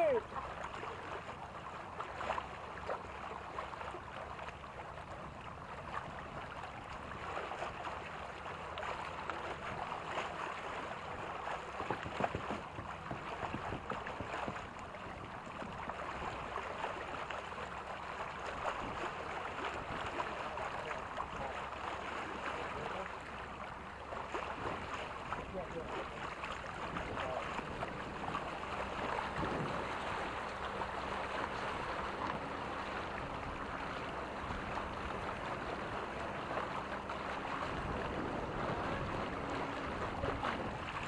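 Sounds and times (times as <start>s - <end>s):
water splashing against boat hull: 0.0s - 41.0s.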